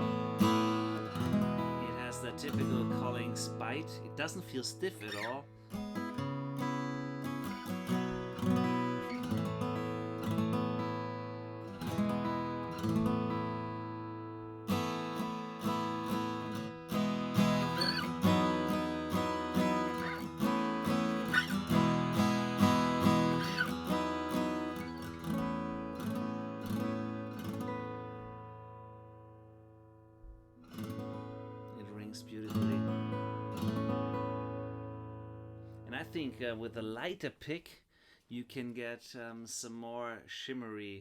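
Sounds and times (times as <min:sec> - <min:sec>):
acoustic guitar strumming: 0:00.0 - 0:29.5, 0:30.3 - 0:36.6.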